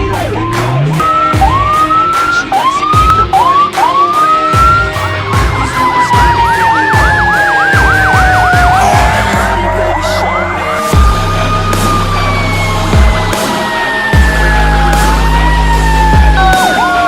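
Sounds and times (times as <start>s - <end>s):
fire truck sirens: 0.0s - 17.0s.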